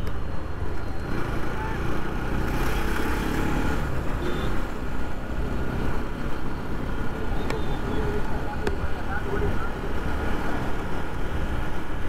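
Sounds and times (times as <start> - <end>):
road and traffic noise: 0.0 - 12.0.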